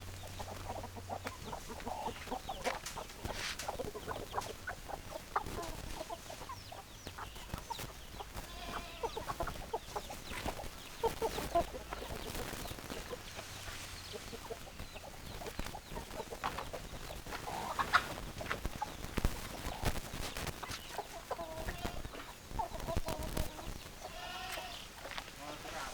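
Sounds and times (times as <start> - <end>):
hens clucking: 0.0 - 25.9.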